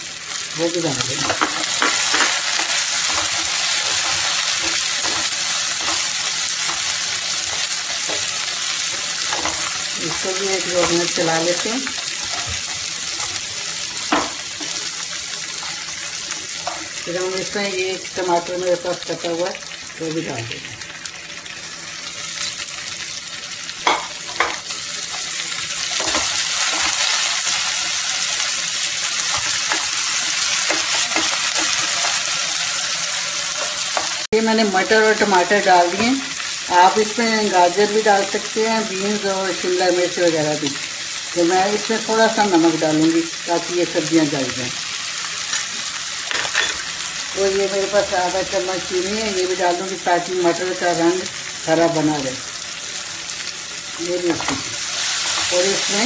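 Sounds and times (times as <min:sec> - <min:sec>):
vegetables sizzling in hot oil: 0:00.0 - 0:56.0.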